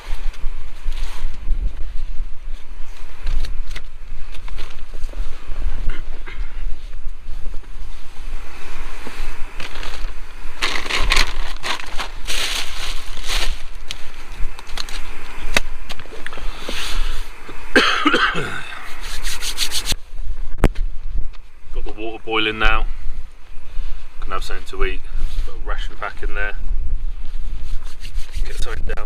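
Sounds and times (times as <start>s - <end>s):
handling noise rubbing and scraping: 0.0s - 17.6s, 18.8s - 20.0s, 23.8s - 29.0s
wind buffeting microphone: 0.0s - 29.0s.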